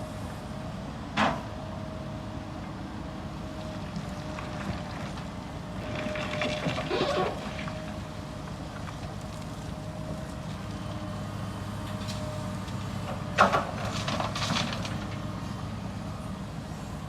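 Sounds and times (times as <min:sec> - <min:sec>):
construction machinery engine drone: 0:00.0 - 0:17.0.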